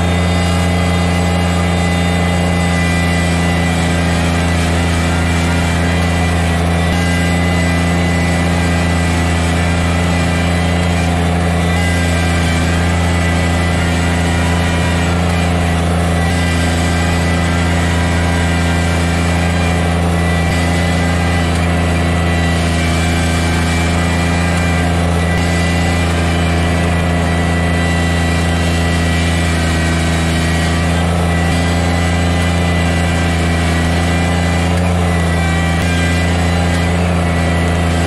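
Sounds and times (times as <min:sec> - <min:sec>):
loader bucket pushing snow: 0:00.0 - 0:38.0
tractor diesel engine running: 0:00.0 - 0:38.0.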